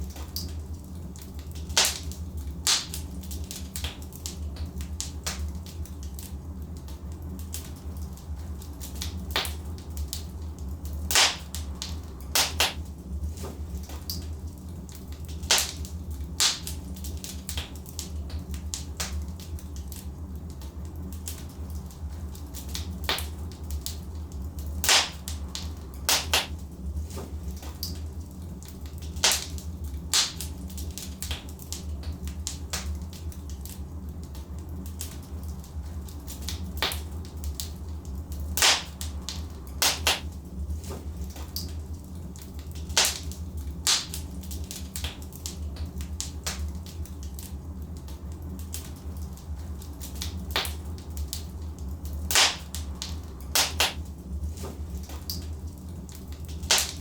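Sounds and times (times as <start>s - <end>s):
logs burning in fireplace: 0.0s - 57.0s.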